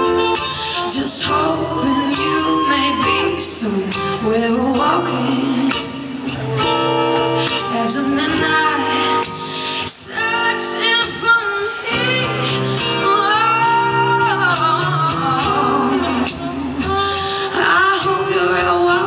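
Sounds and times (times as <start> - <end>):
guitar accompaniment: 0.0 - 19.0
woman singing blues: 0.0 - 19.0.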